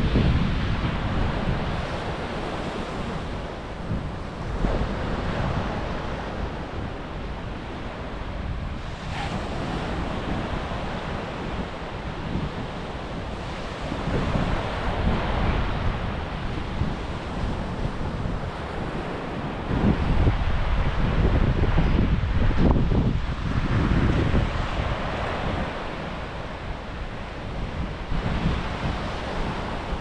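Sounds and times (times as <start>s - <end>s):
surf washing onto beach: 0.0s - 30.0s
wind buffeting microphone: 0.0s - 30.0s.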